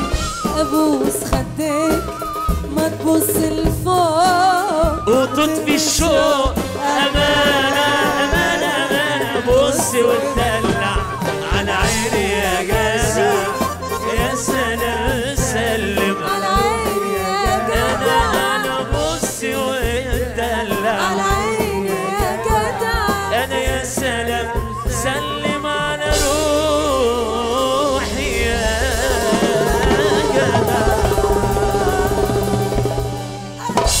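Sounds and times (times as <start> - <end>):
band playing dance beat: 0.0 - 34.0
darbuka drumming: 0.0 - 34.0
man singing: 5.0 - 32.8.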